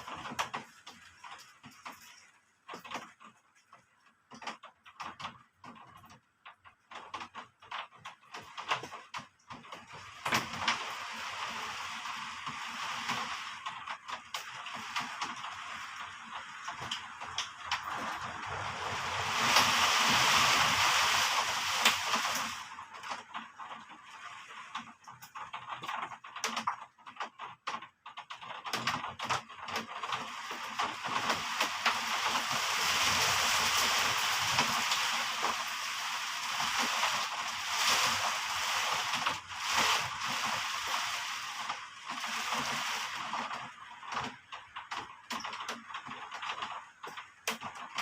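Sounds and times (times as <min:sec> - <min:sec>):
heavy rain: 0:00.0 - 0:03.8, 0:08.2 - 0:26.8, 0:28.2 - 0:48.0.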